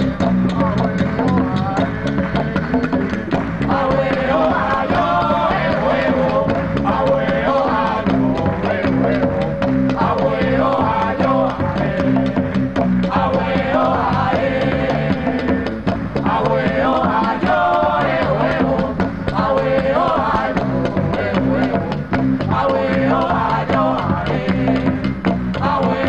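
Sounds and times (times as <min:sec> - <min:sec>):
folk ensemble melody and bass: 0:00.0 - 0:26.0
percussion strokes: 0:00.0 - 0:26.0.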